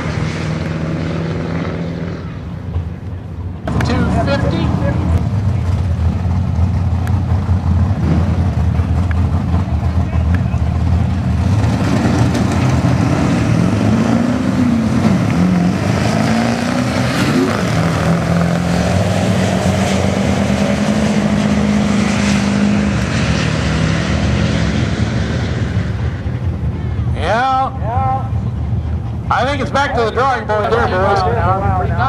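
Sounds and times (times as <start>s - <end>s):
diesel trucks racing full throttle: 0.0s - 32.0s.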